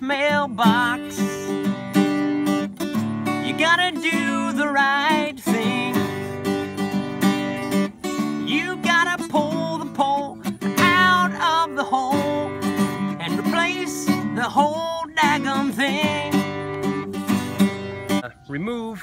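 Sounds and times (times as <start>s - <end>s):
man singing: 0.0s - 2.3s, 3.2s - 17.1s
acoustic guitar strumming: 0.0s - 18.2s.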